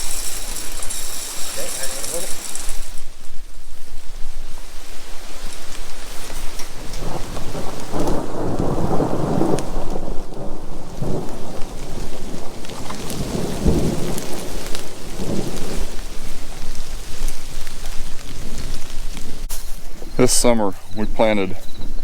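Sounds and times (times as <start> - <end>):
raindrop ticks: 0.0 - 22.0
steady rain: 0.0 - 22.0
thunder rumbling: 0.0 - 22.0.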